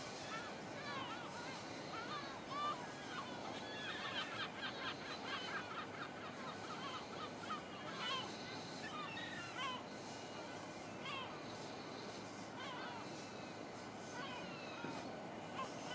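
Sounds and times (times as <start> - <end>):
birds chirping: 0.0 - 15.9
steady background hiss: 0.0 - 15.9.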